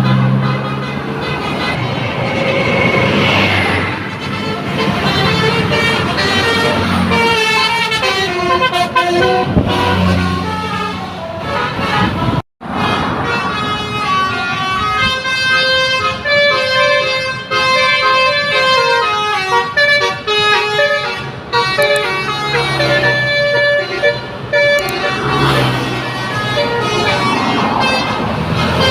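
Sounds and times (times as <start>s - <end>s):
bus multi-tone horn playing a tune: 0.0s - 28.9s.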